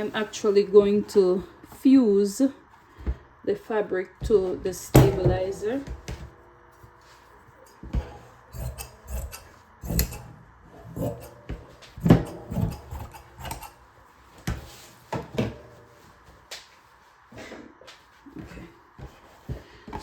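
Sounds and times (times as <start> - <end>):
rustling materials: 0.0 - 20.0.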